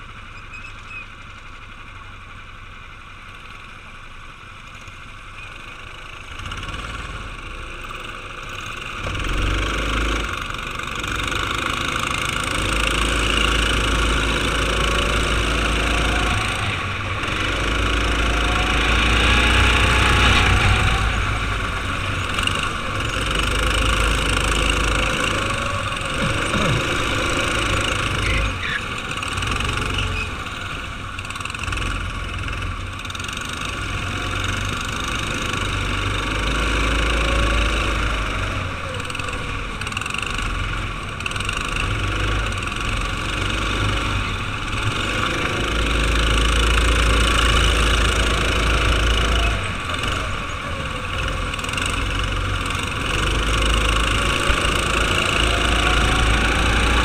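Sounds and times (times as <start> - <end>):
another kart engine: 0.0 - 57.0
go-kart engine racing: 0.0 - 57.0.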